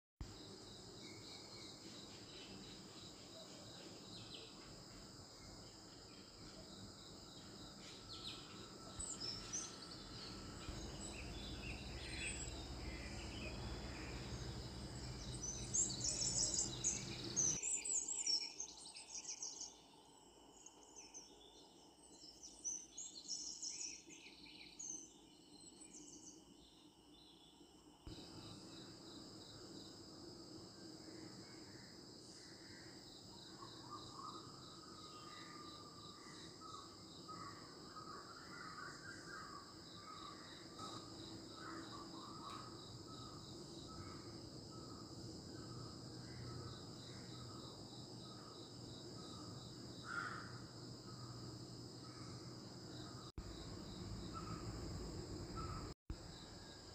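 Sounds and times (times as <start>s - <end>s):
crickets chirping: 0.2s - 56.9s.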